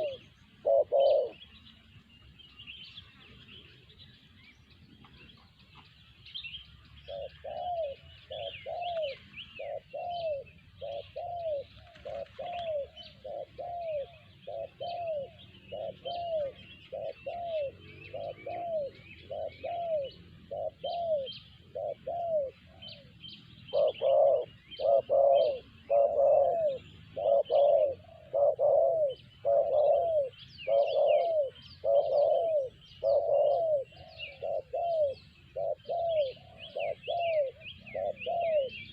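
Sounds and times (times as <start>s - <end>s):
dove cooing: 0.0s - 1.6s, 7.0s - 38.9s
small birds chirping: 0.0s - 38.9s.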